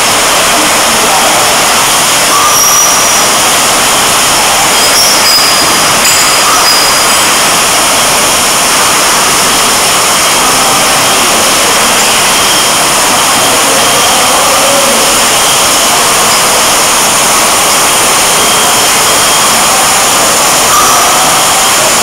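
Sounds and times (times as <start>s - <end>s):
bottle filling machine din: 0.0s - 22.0s.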